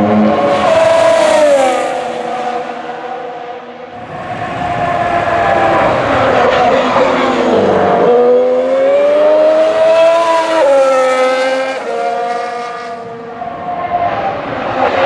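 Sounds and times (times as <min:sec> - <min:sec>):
racing car engine at speed: 0:00.0 - 0:15.0.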